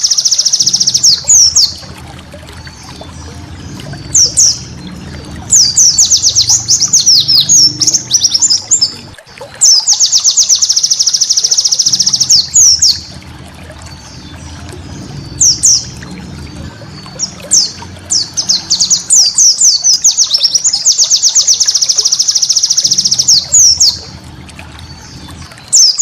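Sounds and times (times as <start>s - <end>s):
bird chirping and trilling: 0.0s - 26.0s
low background hum: 0.0s - 26.0s.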